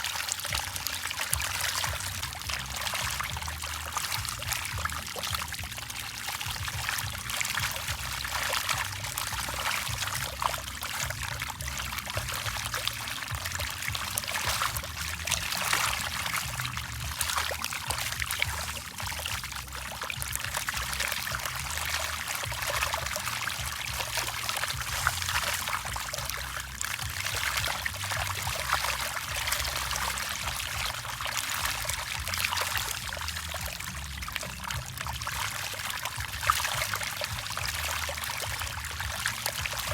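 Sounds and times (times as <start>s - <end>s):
fish splashing at water surface: 0.0s - 39.9s
low rumble: 0.5s - 39.9s.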